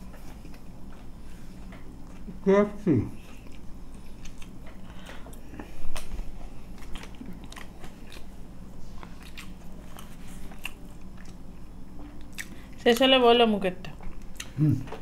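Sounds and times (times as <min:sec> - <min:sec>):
crunchy chewing: 0:00.0 - 0:02.3, 0:03.2 - 0:13.0.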